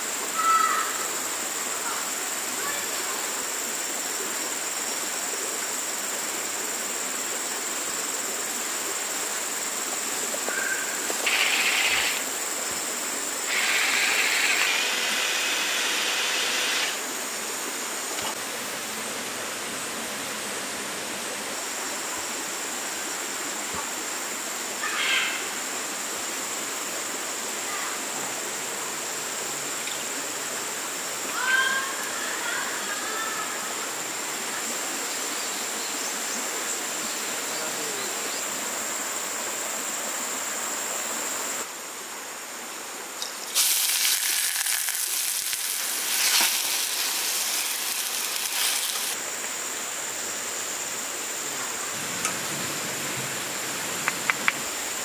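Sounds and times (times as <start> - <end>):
flowing river water: 0.0 - 24.8, 25.5 - 55.0
crackling hiss: 0.0 - 31.4, 38.3 - 55.0.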